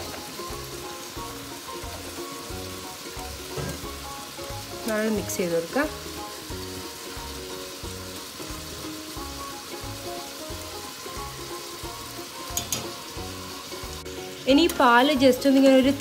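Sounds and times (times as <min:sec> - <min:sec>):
background music with beat: 0:00.0 - 0:04.9, 0:05.9 - 0:14.4.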